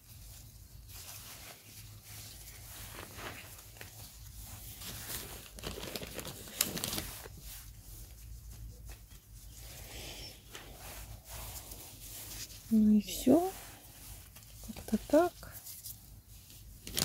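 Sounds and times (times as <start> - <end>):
soil and leaves rustling: 0.0 - 17.0.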